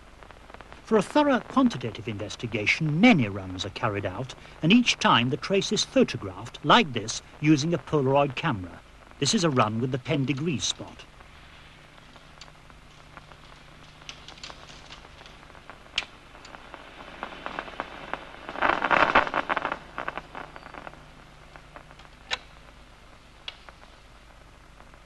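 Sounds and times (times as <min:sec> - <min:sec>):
neuron clicks crackling: 0:00.0 - 0:24.0
low steady hum: 0:00.0 - 0:25.0.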